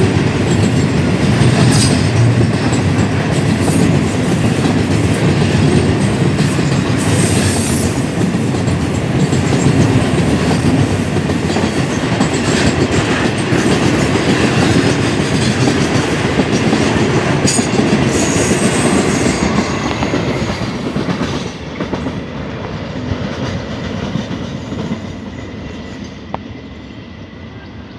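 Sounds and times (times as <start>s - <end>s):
freight train wheels on rails: 0.0s - 27.9s.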